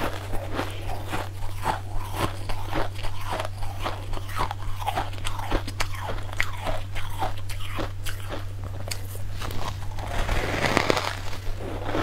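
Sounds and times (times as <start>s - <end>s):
chewing crunchy ice: 0.0s - 12.0s
low hum: 0.0s - 12.0s.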